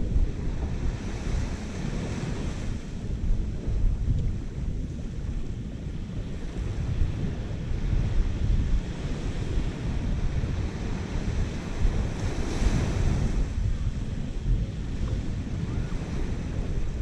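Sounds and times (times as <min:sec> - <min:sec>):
surf on a beach: 0:00.0 - 0:17.0
wind buffeting microphone: 0:00.0 - 0:17.0.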